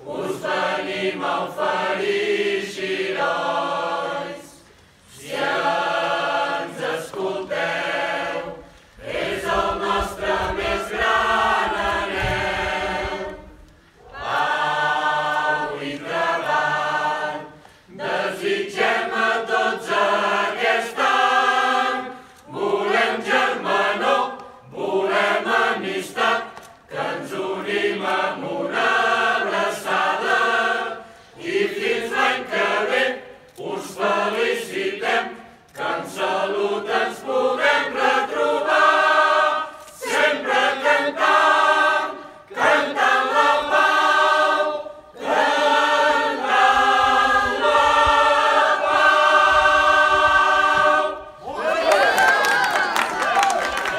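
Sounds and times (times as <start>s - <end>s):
mixed choir singing folk song: 0.0s - 53.9s.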